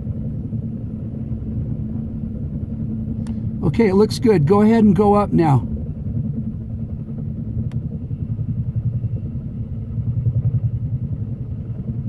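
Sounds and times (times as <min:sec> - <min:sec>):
helicopter rotor beating: 0:00.0 - 0:12.0.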